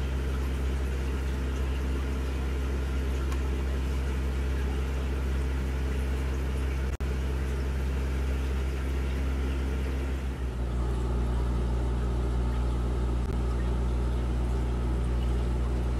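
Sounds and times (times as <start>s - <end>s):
aquarium filter pump hum: 0.0s - 15.9s.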